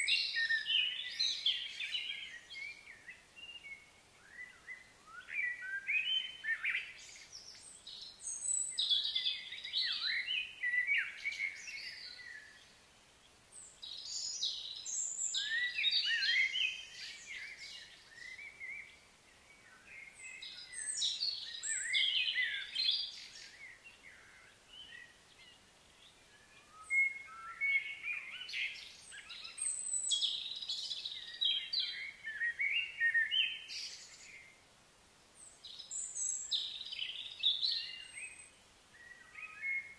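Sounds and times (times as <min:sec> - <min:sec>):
bird chirping: 0:00.0 - 0:34.6, 0:35.4 - 0:39.9.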